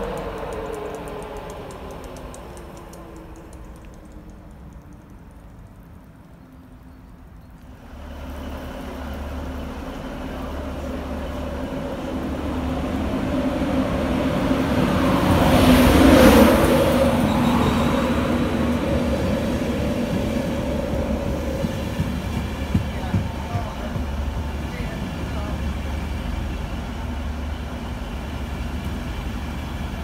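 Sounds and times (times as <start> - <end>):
express train running past: 0.0 - 4.6, 7.7 - 30.0.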